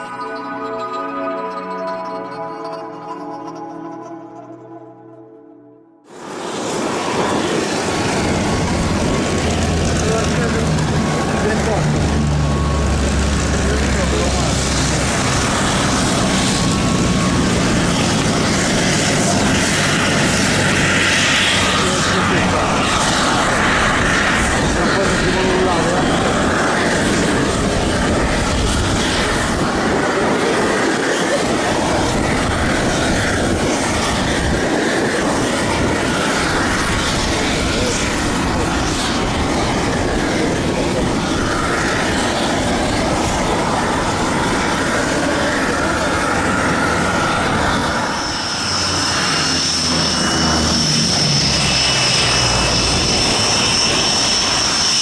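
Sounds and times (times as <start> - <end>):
propeller aircraft engine running: 6.0 - 55.0.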